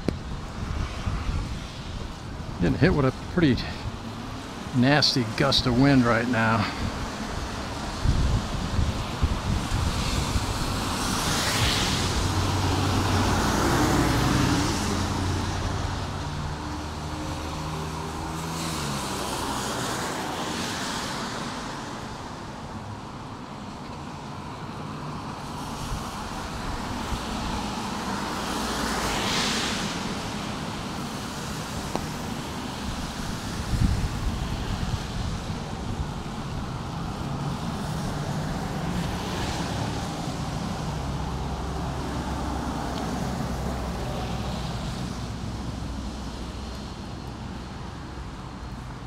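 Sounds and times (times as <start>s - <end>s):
tyres hissing on wet road: 0.1s - 49.0s.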